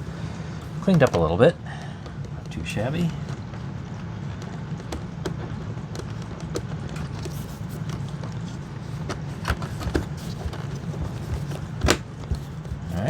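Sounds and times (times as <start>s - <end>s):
plastic parts clicking and tapping: 0.6s - 13.0s.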